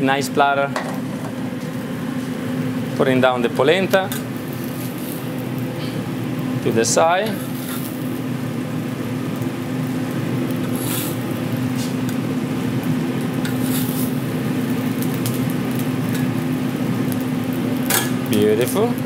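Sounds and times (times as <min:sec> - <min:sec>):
kitchen hum and hiss: 0:00.0 - 0:19.0
food sizzling on a griddle: 0:03.4 - 0:19.0.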